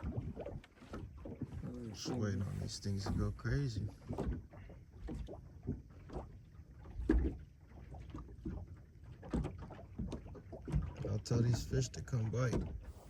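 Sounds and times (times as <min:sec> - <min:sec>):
waves slapping against boat hull: 0:00.0 - 0:13.0.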